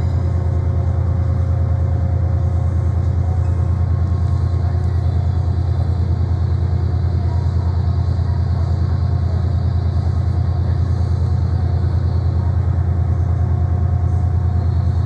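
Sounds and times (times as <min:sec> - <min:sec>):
diesel engine idling drone: 0:00.0 - 0:15.0.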